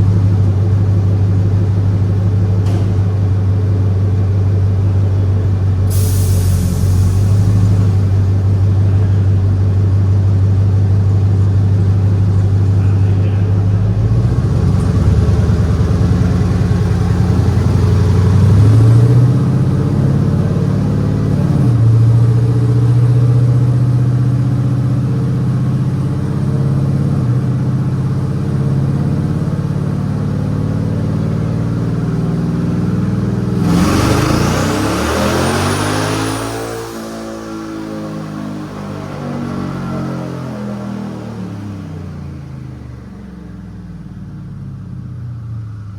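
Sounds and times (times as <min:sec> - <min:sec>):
pickup truck engine revving: 0:00.0 - 0:42.9.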